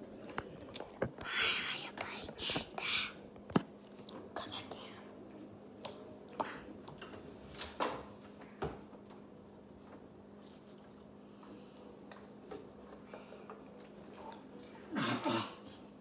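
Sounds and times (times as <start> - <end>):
refrigerator hum: 0.0 - 16.0.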